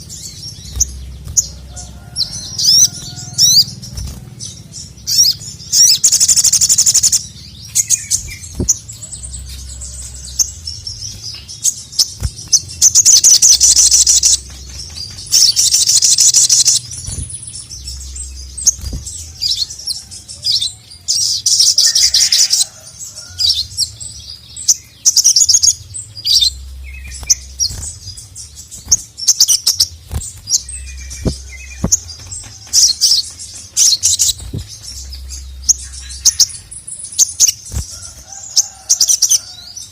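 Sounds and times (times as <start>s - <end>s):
sunbird trilling: 0.0s - 39.8s
bird chirps: 0.0s - 39.9s.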